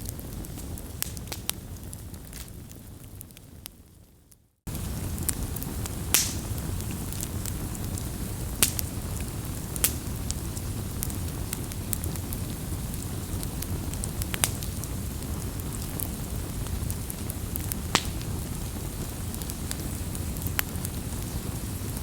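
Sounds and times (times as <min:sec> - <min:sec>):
burning wood popping: 0:00.0 - 0:02.8, 0:04.7 - 0:22.0
campfire crackling: 0:00.0 - 0:04.0, 0:04.7 - 0:22.0.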